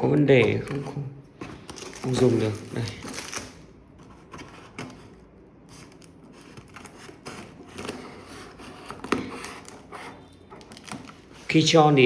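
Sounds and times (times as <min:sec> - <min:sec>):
cardboard parcel rustling and scraping: 0:00.4 - 0:12.0.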